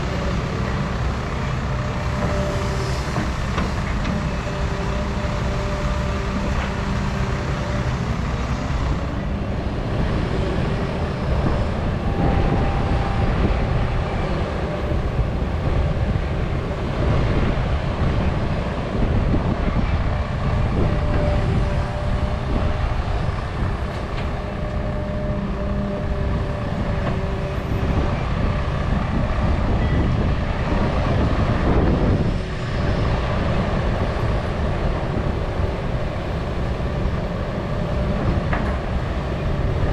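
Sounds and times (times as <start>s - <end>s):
diesel engine rumble: 0.0s - 39.9s.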